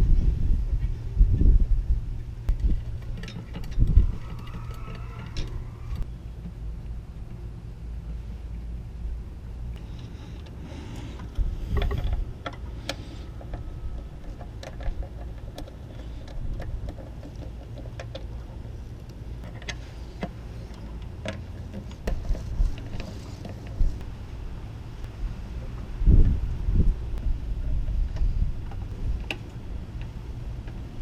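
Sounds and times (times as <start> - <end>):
low steady rumble: 0.0 - 31.0.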